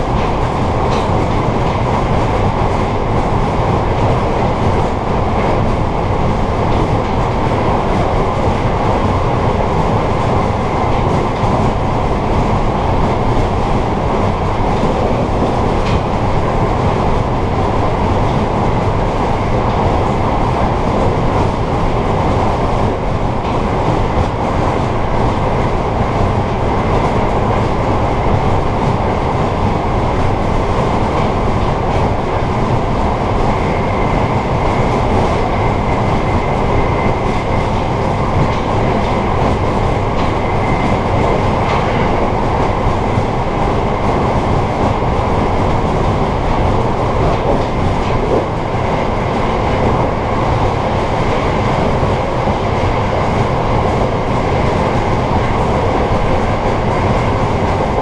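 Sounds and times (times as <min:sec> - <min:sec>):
wheels rumbling on rail: 0:00.0 - 0:58.0.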